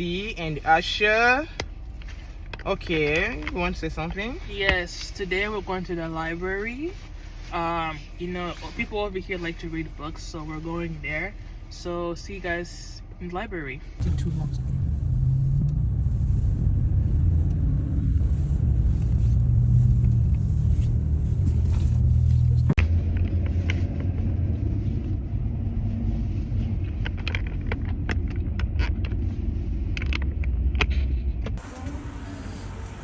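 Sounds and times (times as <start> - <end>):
car road rumble: 0.0 - 33.0.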